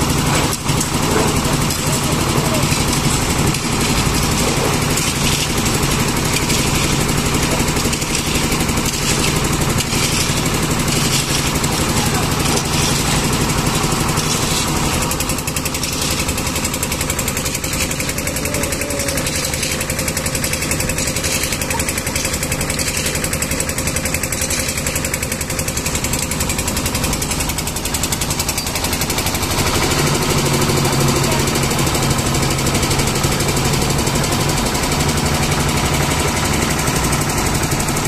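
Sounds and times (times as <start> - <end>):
concrete mixer engine running: 0.0 - 38.0.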